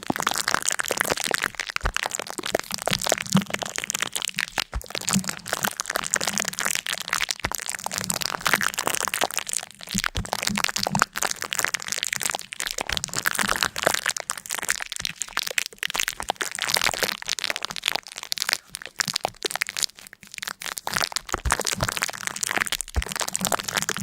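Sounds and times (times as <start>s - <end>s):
dense crackling and crunching: 0.0s - 24.0s.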